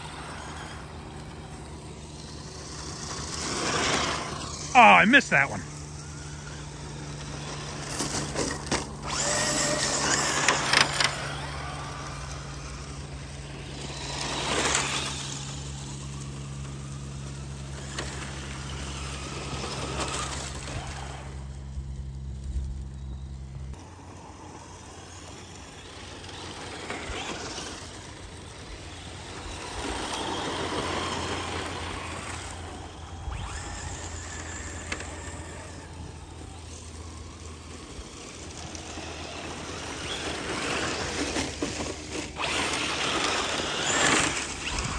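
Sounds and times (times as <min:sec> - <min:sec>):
rc truck motor whine: 0:00.0 - 0:04.7, 0:05.6 - 0:44.9.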